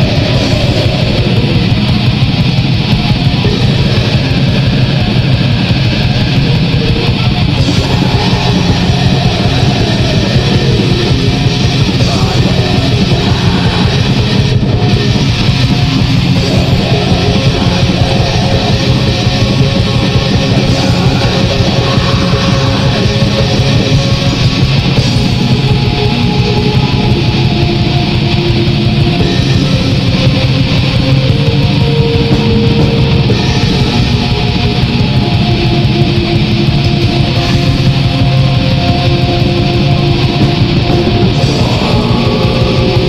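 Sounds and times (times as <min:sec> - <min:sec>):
distorted electric guitar: 0:00.0 - 0:43.0
drums playing: 0:00.0 - 0:43.0.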